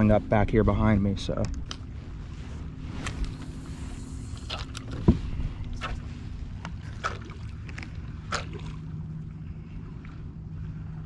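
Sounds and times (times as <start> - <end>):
water lapping against kayak hull: 1.6 - 11.0.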